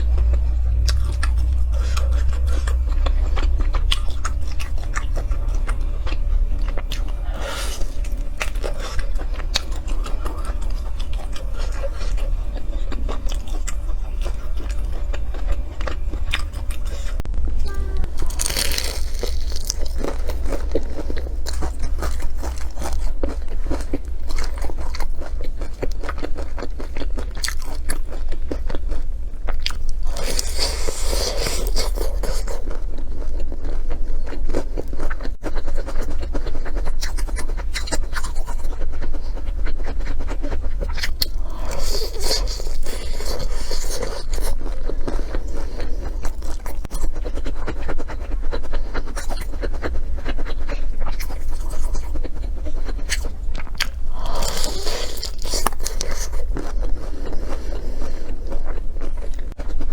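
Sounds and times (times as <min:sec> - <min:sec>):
food crunching and chewing: 0:00.0 - 0:17.2, 0:18.1 - 0:59.9
steady low hum: 0:00.0 - 0:59.9.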